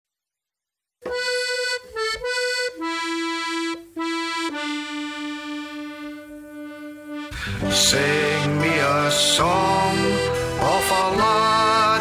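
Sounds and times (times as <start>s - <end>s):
accordion slow melody: 1.0s - 12.0s.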